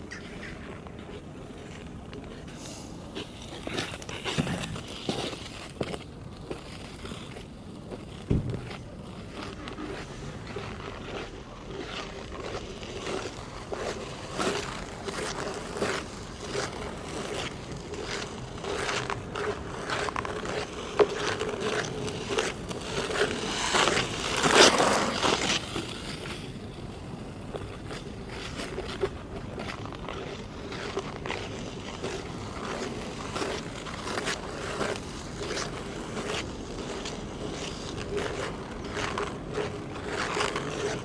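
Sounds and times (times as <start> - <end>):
ice skates scraping ice: 0.0 - 41.0.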